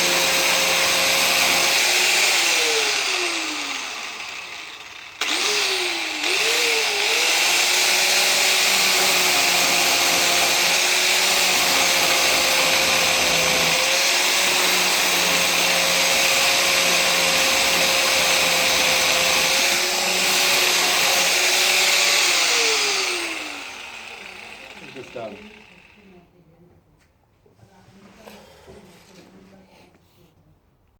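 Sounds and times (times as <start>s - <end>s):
angle grinder sanding wood: 0.0s - 26.0s.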